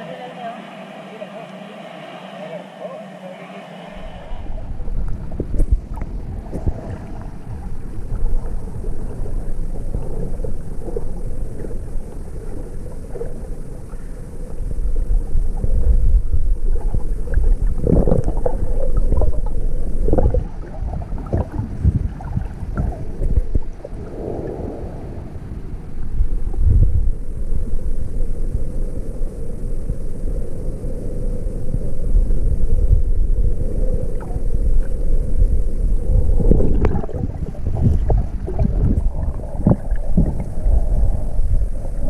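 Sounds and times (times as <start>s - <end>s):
underwater water rumble: 0.0s - 42.0s
underwater gurgles and knocks: 4.1s - 24.9s, 25.9s - 28.6s, 31.6s - 42.0s.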